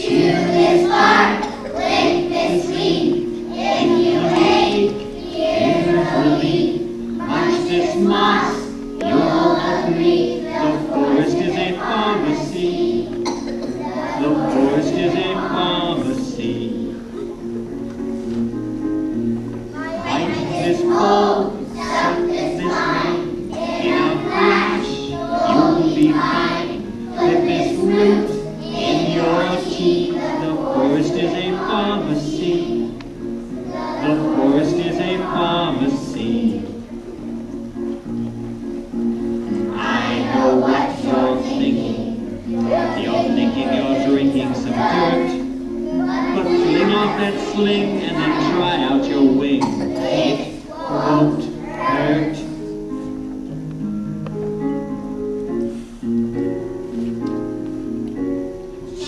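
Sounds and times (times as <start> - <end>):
children singing with accompaniment: 0.0 - 59.0.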